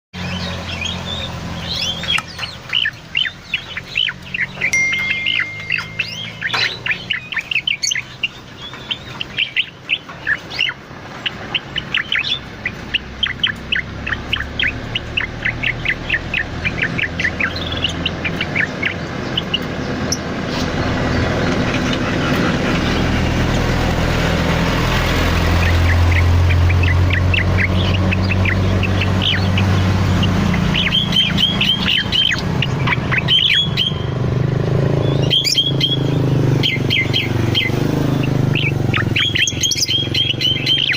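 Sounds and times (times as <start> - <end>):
songbird singing rapid chirps: 0.1 - 40.9.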